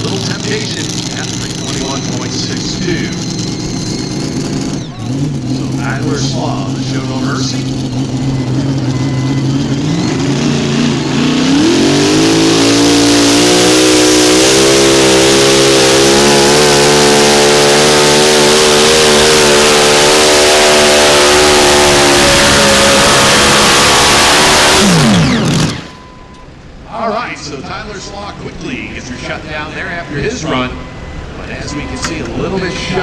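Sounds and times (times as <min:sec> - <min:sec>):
tractor engine at high revs: 0:00.0 - 0:33.0.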